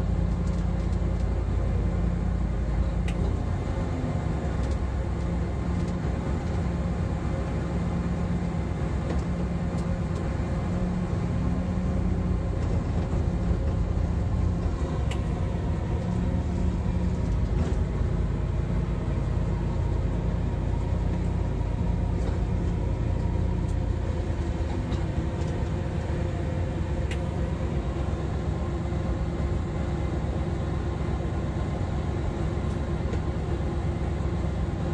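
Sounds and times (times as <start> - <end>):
train rumble: 0.0 - 34.9.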